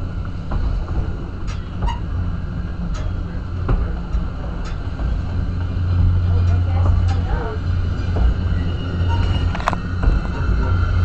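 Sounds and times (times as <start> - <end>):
low rumble of wheels on rails: 0.0 - 11.0.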